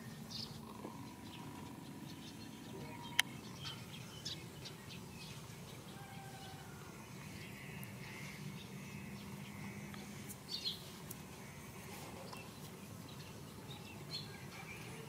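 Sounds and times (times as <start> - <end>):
distant birds chirping: 0.0 - 15.0
low steady hum: 0.0 - 15.0.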